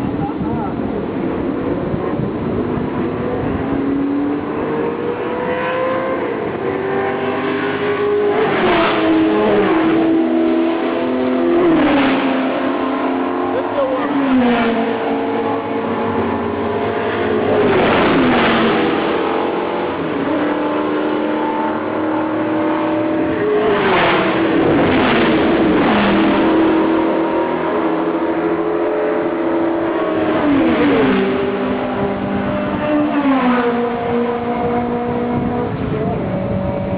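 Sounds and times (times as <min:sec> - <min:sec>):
racing car engines passing by: 0:00.0 - 0:36.9
engines revving high: 0:00.1 - 0:36.9.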